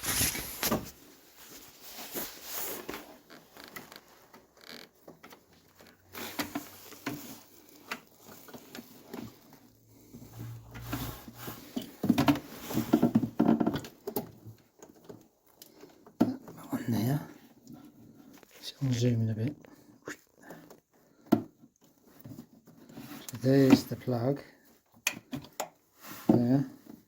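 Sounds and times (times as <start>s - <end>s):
plastic parts clicking and scraping: 2.7s - 27.0s.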